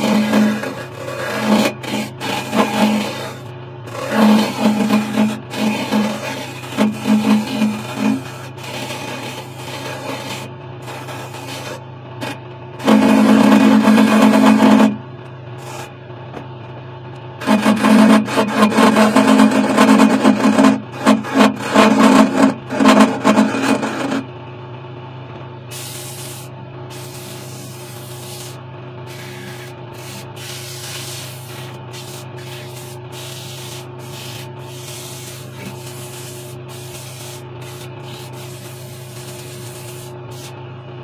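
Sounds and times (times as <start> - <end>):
sandpaper rubbing wood: 0.0 - 11.8, 12.8 - 15.0, 15.6 - 15.9, 17.4 - 24.2, 25.7 - 40.6
lathe motor hum: 0.0 - 16.2, 17.4 - 24.4, 26.0 - 41.0.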